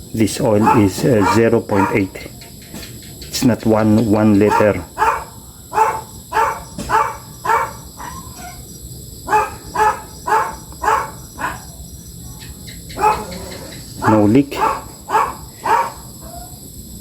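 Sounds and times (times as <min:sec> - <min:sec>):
dog barking: 0:00.4 - 0:02.3, 0:04.3 - 0:16.6.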